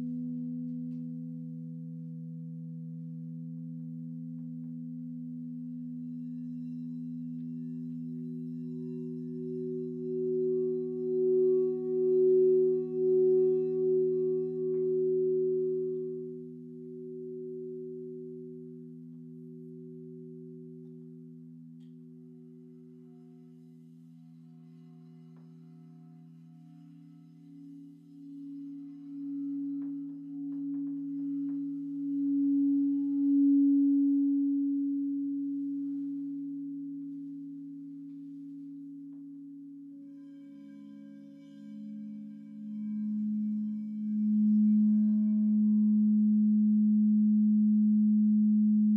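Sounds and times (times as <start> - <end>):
singing bowls ringing: 0.0 - 48.9.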